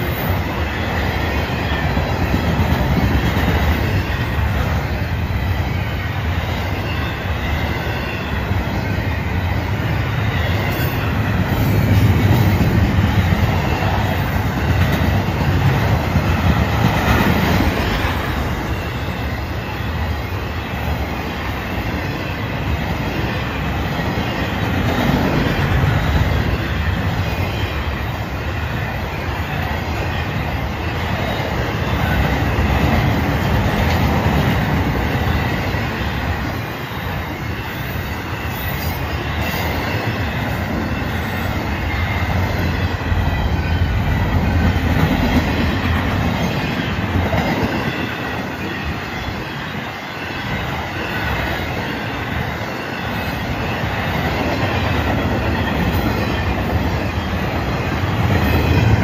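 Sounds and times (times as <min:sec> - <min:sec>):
freight train wheels clattering on rail: 0:00.0 - 0:59.0.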